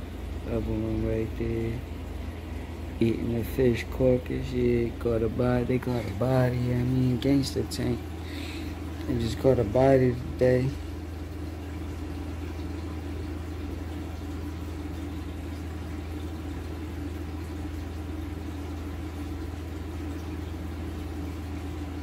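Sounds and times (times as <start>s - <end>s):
aquarium air pump humming: 0.0s - 22.0s.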